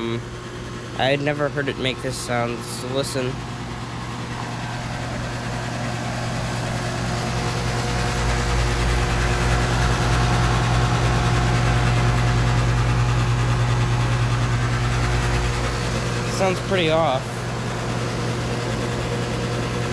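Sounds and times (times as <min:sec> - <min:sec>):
air conditioner unit humming: 0:00.0 - 0:19.9
fan rushing: 0:00.0 - 0:19.9.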